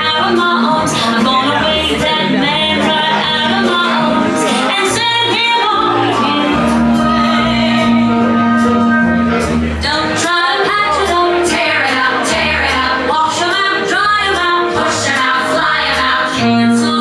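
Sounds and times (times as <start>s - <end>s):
show tune music with singing: 0.0s - 17.0s.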